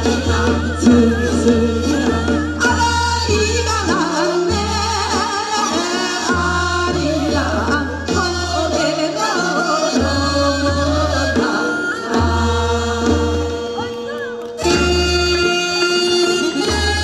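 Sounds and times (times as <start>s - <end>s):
women singing with vibrato: 0.0s - 17.0s.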